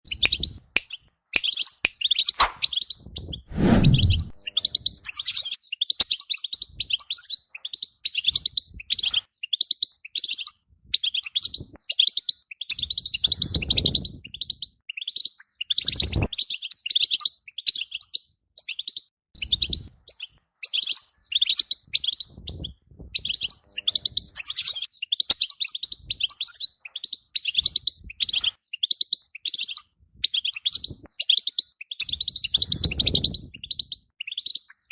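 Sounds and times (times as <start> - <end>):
goldfinch twittering song: 0.1 - 34.9.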